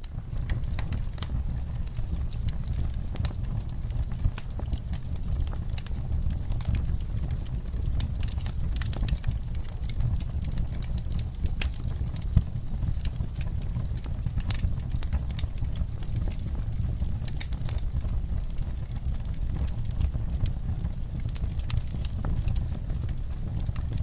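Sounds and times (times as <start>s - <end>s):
low steady rumble: 0.0s - 24.0s
wood fire crackling and popping: 0.0s - 24.0s.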